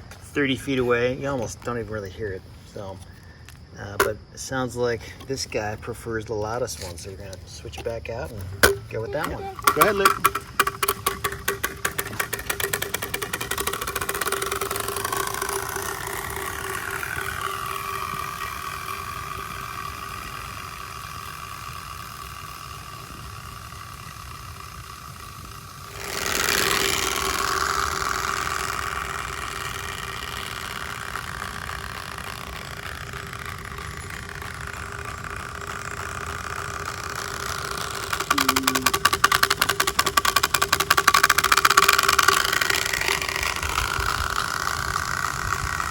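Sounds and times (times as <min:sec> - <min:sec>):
bicycle spoke noise maker buzzing: 0:00.0 - 0:45.9.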